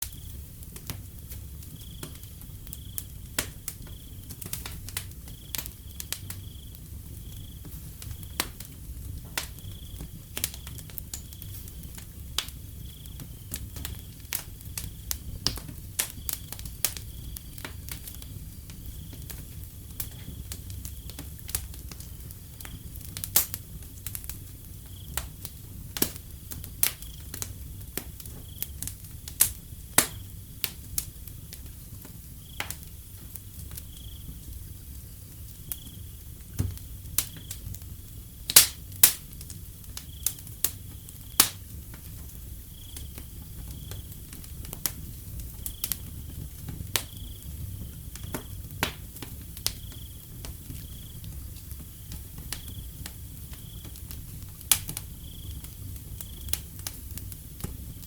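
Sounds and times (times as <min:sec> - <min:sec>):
wood fire crackling: 0:00.0 - 0:58.0
crickets chirping: 0:00.1 - 0:00.6, 0:01.4 - 0:58.0.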